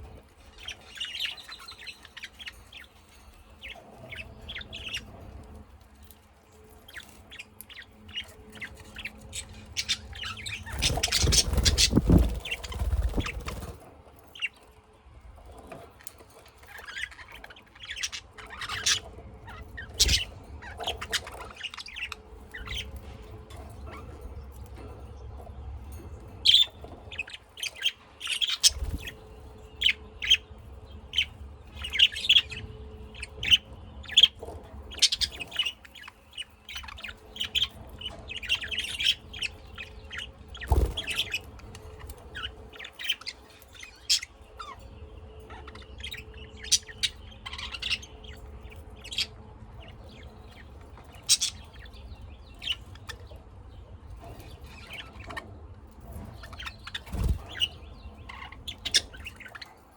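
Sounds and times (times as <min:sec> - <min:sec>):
birds chirping in a cage: 0:00.0 - 0:59.9.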